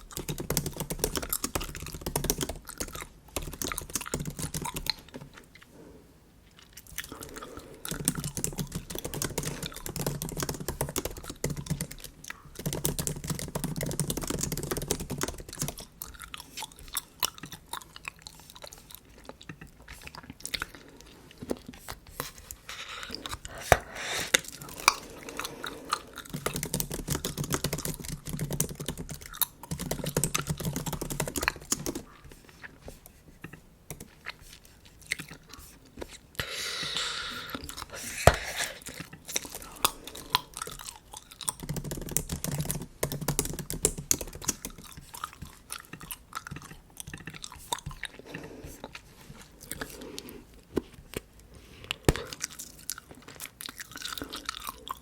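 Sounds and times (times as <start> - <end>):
gum chewing wet smacking: 0.0 - 5.7, 6.4 - 55.0.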